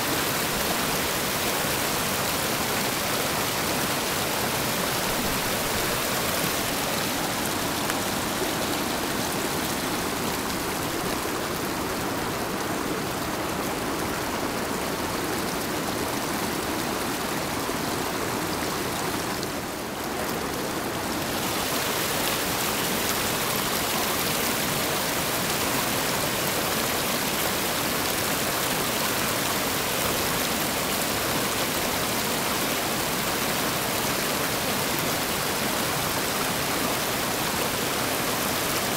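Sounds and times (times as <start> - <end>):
rapids rushing over rocks: 0.0 - 38.9.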